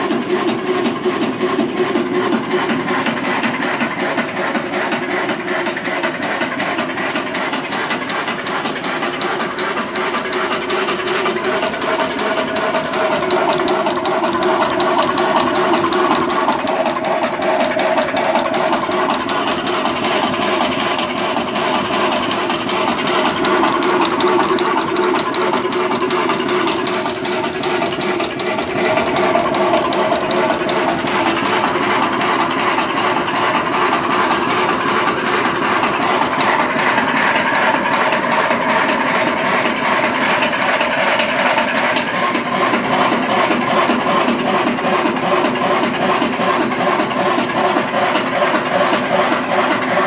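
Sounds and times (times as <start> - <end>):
coffee roaster motor whirring: 0.0 - 50.0
drum shaft rattling: 0.0 - 50.0.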